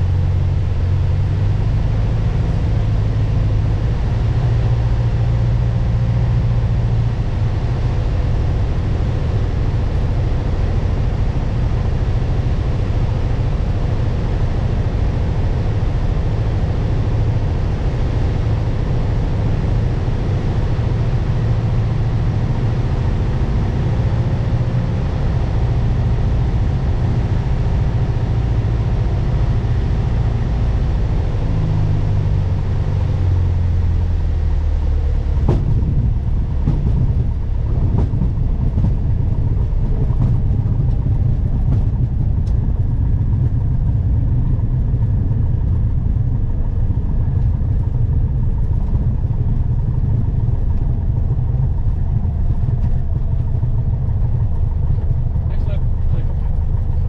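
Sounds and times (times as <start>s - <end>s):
propeller plane engine from cabin: 0.0s - 57.0s.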